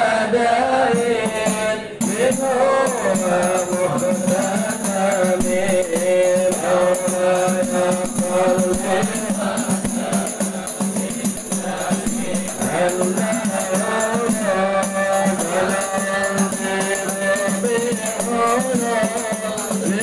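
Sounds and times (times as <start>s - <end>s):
men singing together: 0.0s - 20.0s
lead voice on microphone: 0.9s - 20.0s
hand-struck frame drums: 1.0s - 20.0s.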